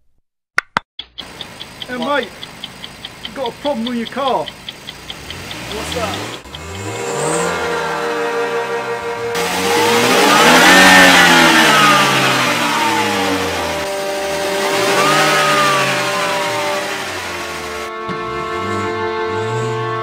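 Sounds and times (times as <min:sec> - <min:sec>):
car engine revving: 0:01.2 - 0:20.0.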